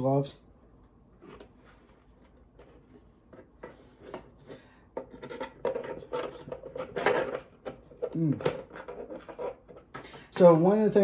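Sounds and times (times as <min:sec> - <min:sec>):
plastic parts scraping and knocking: 0:01.2 - 0:10.6.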